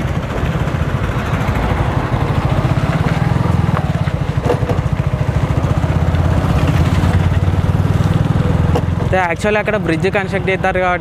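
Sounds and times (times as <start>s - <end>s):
motorcycle engine cruising: 0.0s - 11.0s
wind and road noise: 0.0s - 11.0s.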